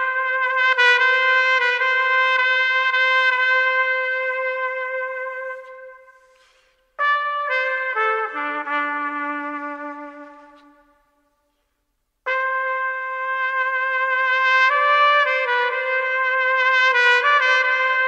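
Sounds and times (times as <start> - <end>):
solo brass melody: 0.0 - 11.6, 12.2 - 18.0.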